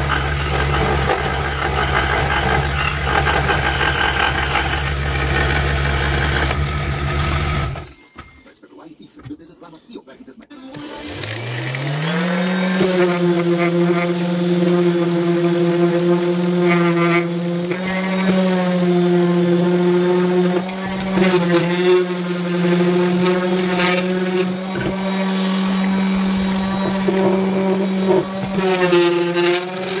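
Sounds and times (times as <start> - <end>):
orbital sander sanding wood: 0.0 - 7.8, 10.9 - 30.0.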